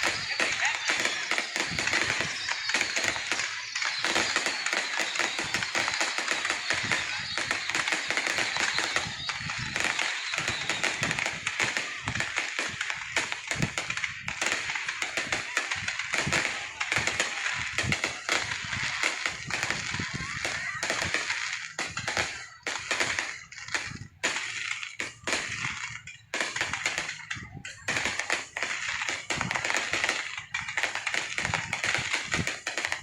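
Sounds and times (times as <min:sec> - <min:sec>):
firework whistles: 0:00.0 - 0:33.0
fireworks crackling: 0:00.0 - 0:33.0.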